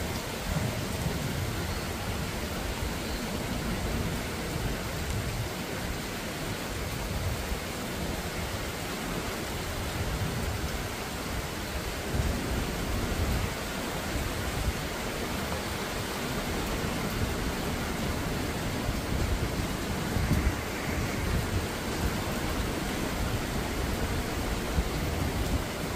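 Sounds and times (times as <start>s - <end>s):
heavy rain hiss: 0.0s - 25.9s.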